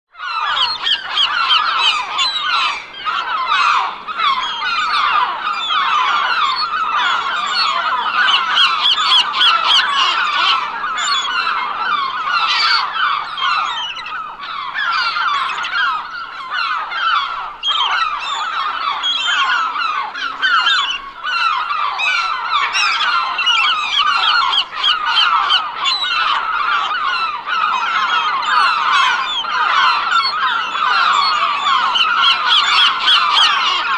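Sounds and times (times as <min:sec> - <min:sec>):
flock of gulls calling: 0:00.1 - 0:33.9.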